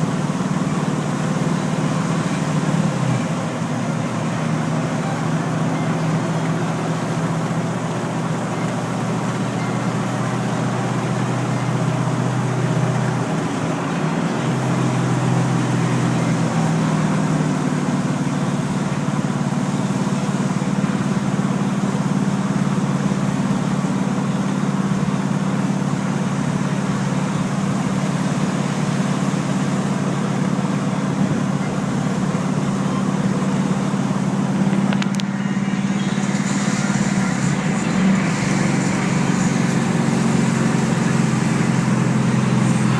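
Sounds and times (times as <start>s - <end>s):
road noise: 0.0s - 42.9s
truck engine running: 0.0s - 42.9s.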